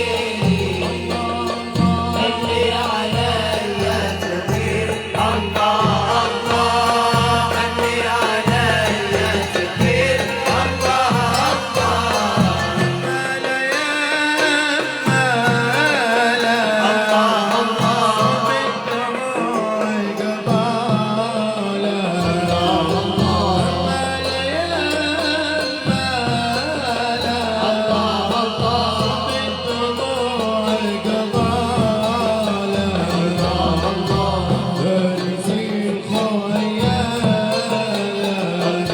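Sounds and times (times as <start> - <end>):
hand drum percussion: 0.0 - 38.9
voices singing a melody: 0.0 - 38.9.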